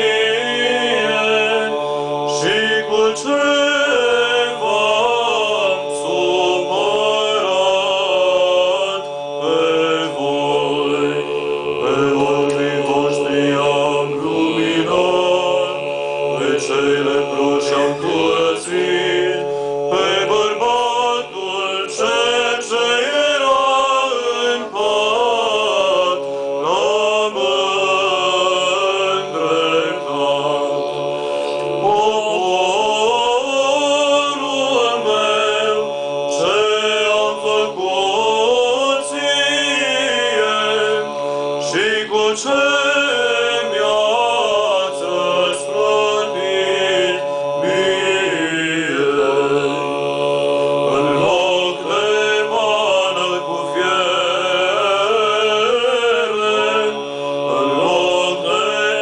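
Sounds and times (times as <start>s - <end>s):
men singing chant a cappella: 0.0s - 59.0s.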